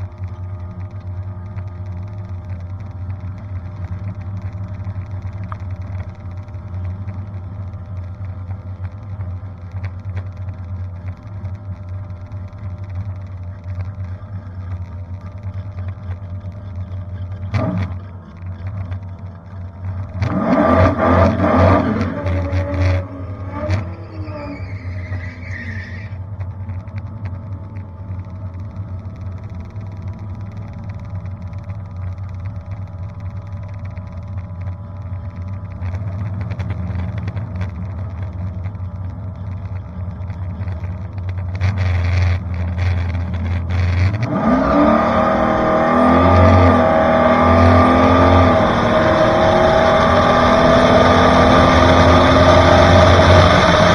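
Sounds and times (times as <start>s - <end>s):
car engine at full throttle: 0.0s - 53.9s
car engine idling: 0.0s - 53.9s.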